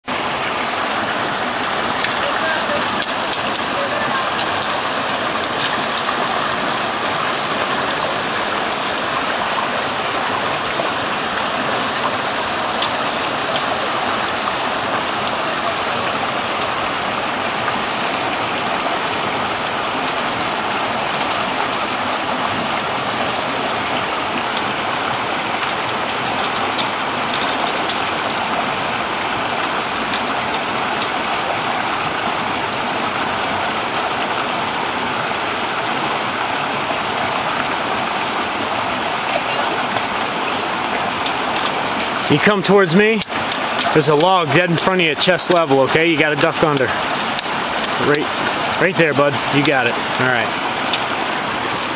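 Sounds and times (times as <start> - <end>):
creek rushing over rocks: 0.0 - 51.9.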